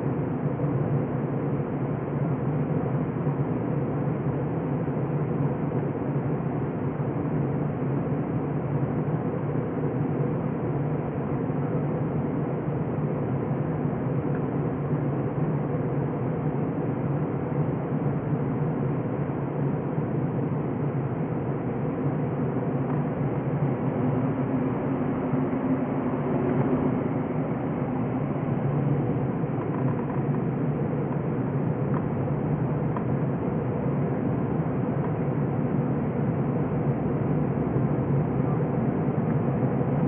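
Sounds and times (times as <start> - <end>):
low constant hum: 0.0 - 40.0
jet engines running: 0.1 - 40.0.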